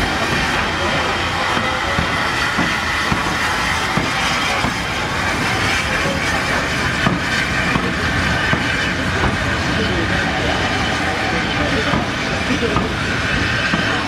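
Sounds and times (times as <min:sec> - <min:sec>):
steam locomotive rumbling past: 0:00.0 - 0:14.0.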